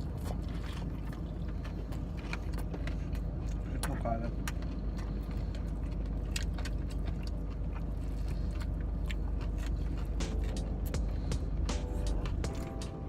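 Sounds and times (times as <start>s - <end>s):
car hum: 0.0s - 13.0s
crunchy chewing: 0.0s - 13.0s.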